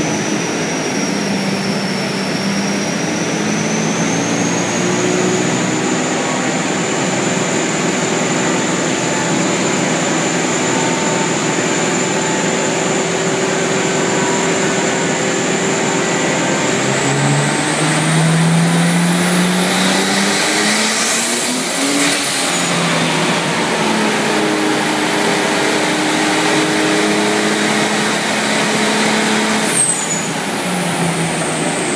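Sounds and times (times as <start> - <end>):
car engine under load: 0.0 - 31.9
dyno roller and tyre noise: 0.0 - 31.9
high turbo whine: 0.0 - 31.9.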